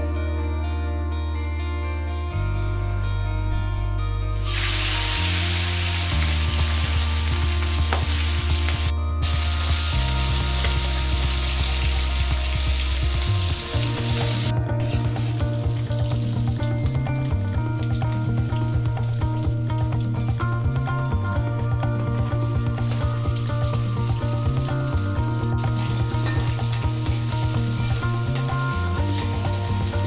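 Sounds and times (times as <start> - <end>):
background music low notes: 0.0 - 30.0
food sizzling in a pan: 4.4 - 30.0.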